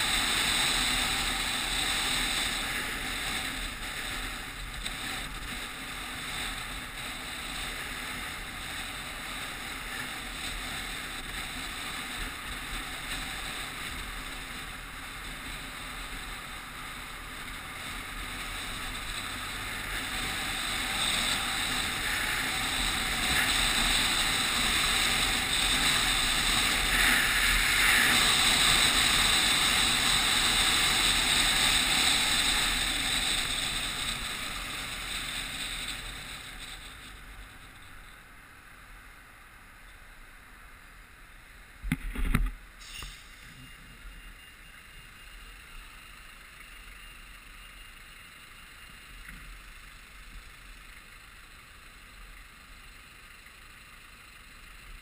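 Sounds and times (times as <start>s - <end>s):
street background: 0.0s - 55.0s
wind and road noise: 0.0s - 55.0s.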